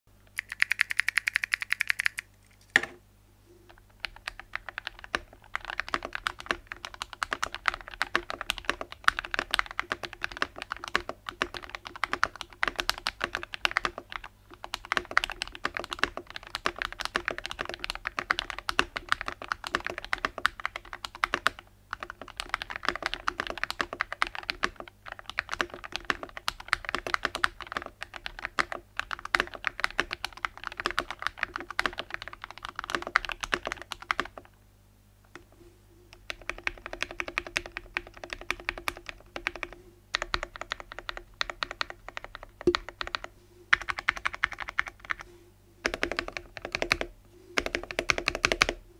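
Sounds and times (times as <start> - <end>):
mechanical keyboard typing: 0.4 - 3.0, 4.0 - 34.5, 36.1 - 45.2, 45.8 - 48.8.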